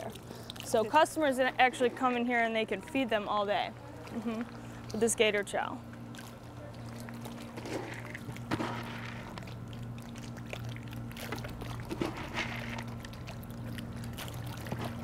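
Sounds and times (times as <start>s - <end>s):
steady low hum: 0.0s - 15.0s
water sloshing and splashing: 0.0s - 15.0s.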